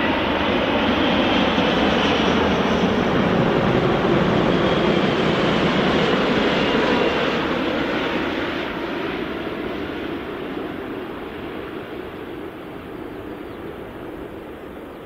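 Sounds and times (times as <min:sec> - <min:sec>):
jet airliner engine rush: 0:00.0 - 0:15.0.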